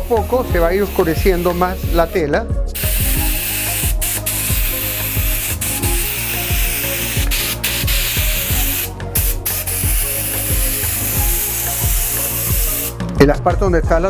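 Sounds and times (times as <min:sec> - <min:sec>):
airbrush spraying hiss: 0:00.0 - 0:13.0
background music with beat: 0:00.0 - 0:14.0.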